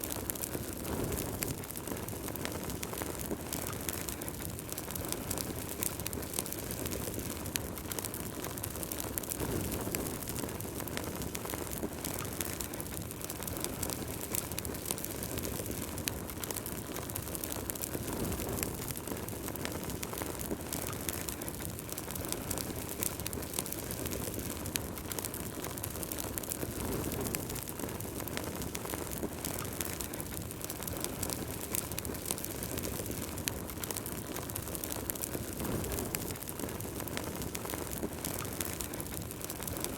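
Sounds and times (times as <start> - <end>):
burning logs crackling: 0.0 - 39.9
fire flame rushing: 0.0 - 39.9.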